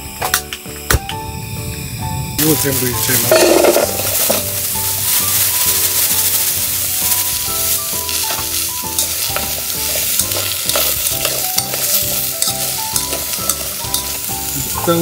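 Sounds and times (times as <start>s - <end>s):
background music with held notes: 0.0s - 15.0s
vegetables sizzling in hot oil: 0.0s - 15.0s.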